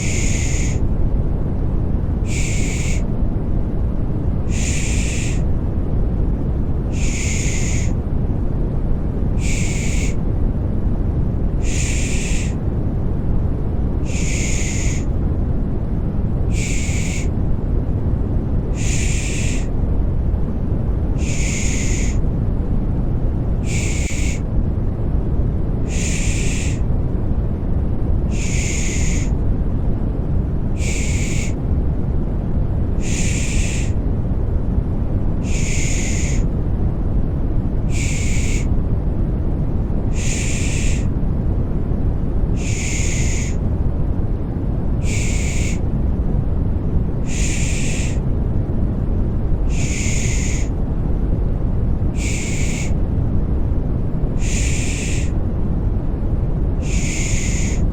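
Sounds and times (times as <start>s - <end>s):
low white noise: 0.0s - 57.9s.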